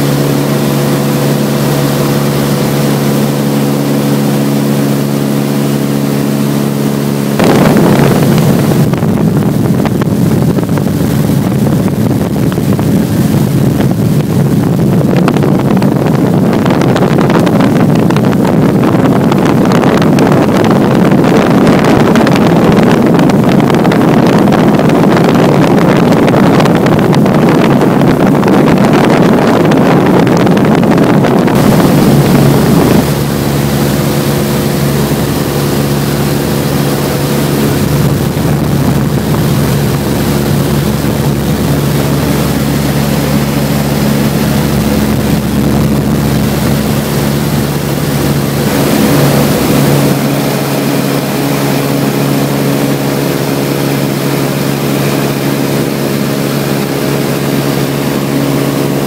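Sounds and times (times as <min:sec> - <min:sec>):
light aircraft engine droning: 0:00.0 - 0:59.0
wind rush over microphone: 0:00.0 - 0:59.0.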